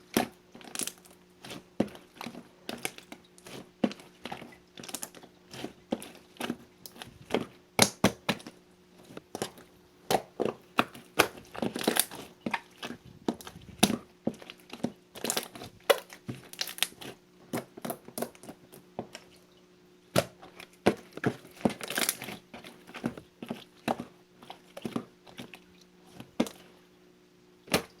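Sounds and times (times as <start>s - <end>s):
hands squishing slime: 0.0s - 19.4s, 20.1s - 26.8s, 27.7s - 28.0s.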